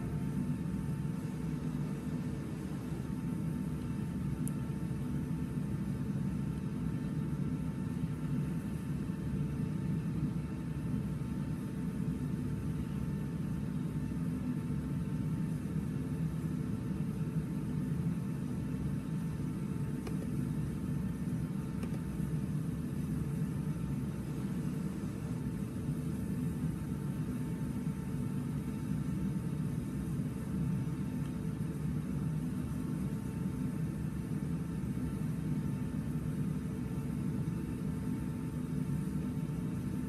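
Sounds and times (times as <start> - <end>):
faint constant whine: 0.0 - 40.0
low rumble and hum: 0.0 - 40.0.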